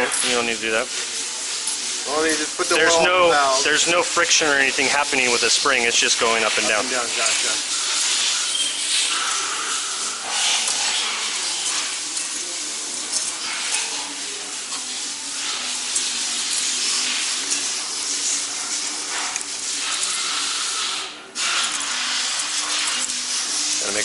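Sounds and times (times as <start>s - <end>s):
steady rushing hiss: 0.0s - 24.0s.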